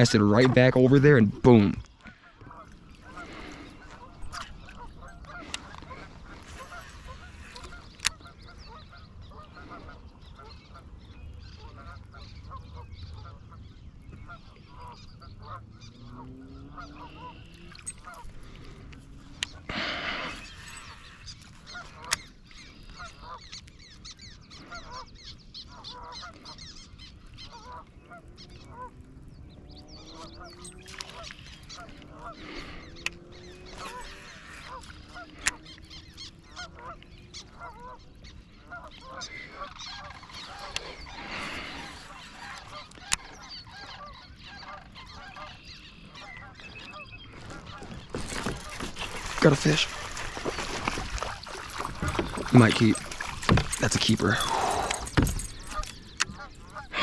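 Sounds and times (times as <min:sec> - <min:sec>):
geese honking: 0:00.0 - 0:10.9, 0:11.6 - 0:23.6, 0:24.2 - 0:57.0.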